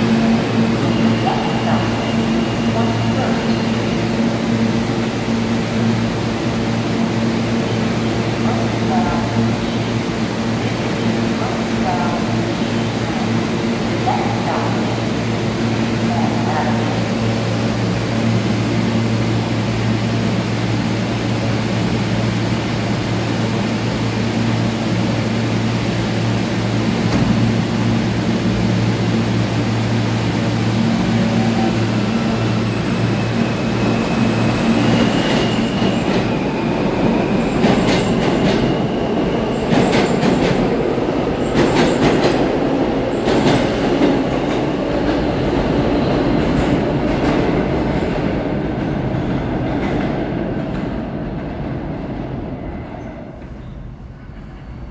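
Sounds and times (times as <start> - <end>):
subway train equipment hum: 0.0 - 54.9.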